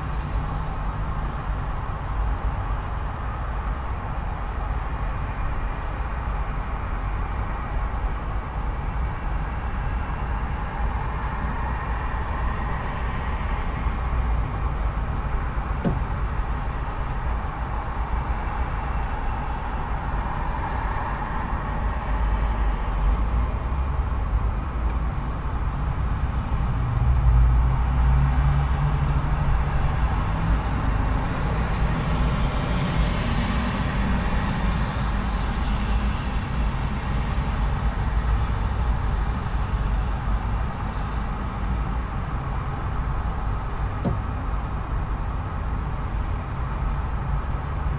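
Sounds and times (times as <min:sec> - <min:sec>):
road traffic: 0:00.0 - 0:47.9.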